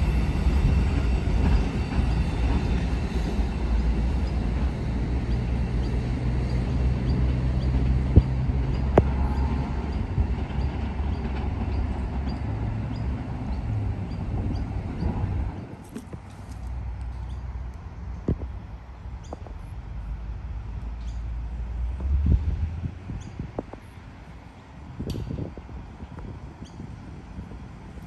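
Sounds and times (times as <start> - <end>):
train engine humming: 0.0 - 28.0.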